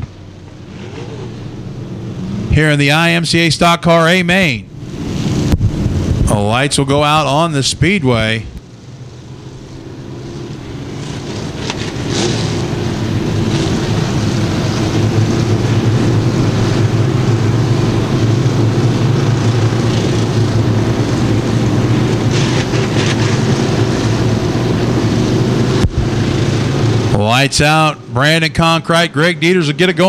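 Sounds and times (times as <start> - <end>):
stock car engines at low revs: 0.0 - 30.0.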